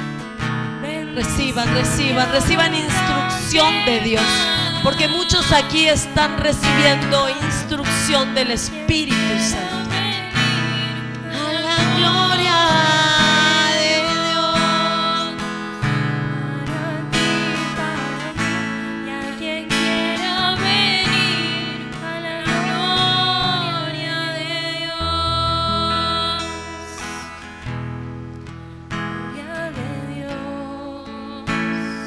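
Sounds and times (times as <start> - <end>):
strummed acoustic guitar: 0.0 - 32.0
woman singing: 0.8 - 27.5, 29.2 - 32.0.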